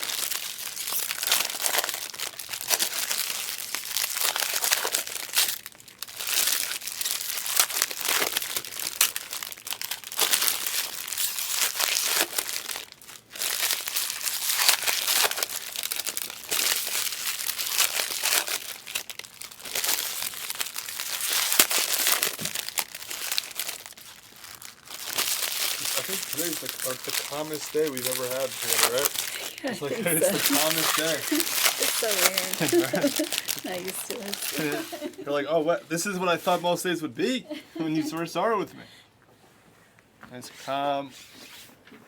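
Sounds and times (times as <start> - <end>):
foil wrappers crinkling: 0.0 - 38.5.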